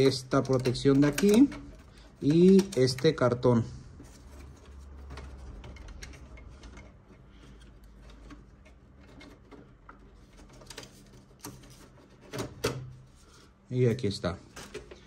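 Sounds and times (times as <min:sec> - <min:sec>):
faint clicks and handling noises: 0:00.0 - 0:15.0.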